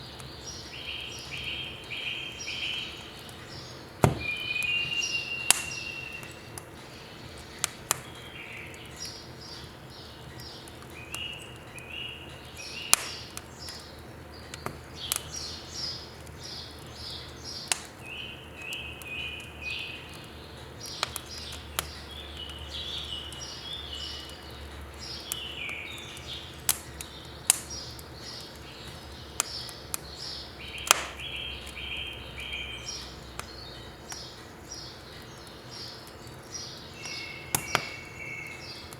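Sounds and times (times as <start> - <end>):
birds chirping: 0.0 - 38.9
firewood popping in stove: 0.0 - 38.9.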